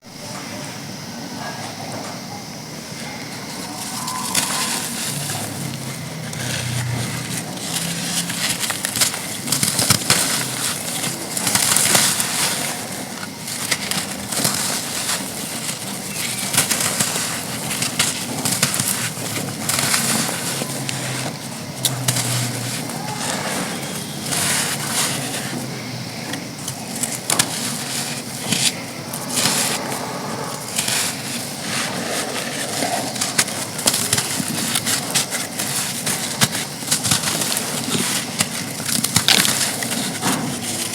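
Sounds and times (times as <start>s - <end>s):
dried sand crunching: 3.0s - 40.9s.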